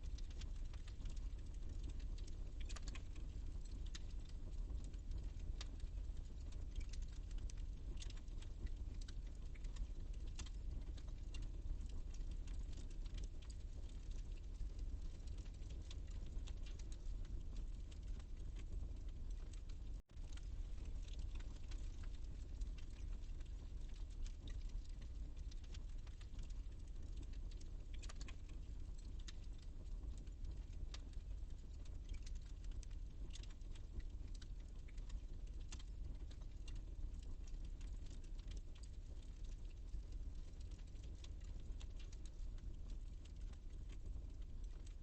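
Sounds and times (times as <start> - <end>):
fire crackles and pops: 0.0 - 45.0
low rumble of fire: 0.0 - 45.0.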